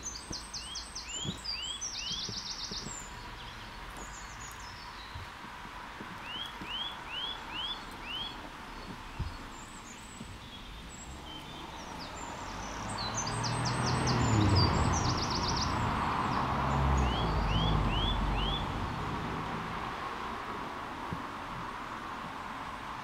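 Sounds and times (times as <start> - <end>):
engine rumbling: 0.0 - 23.0
small birds chirping: 0.0 - 23.0.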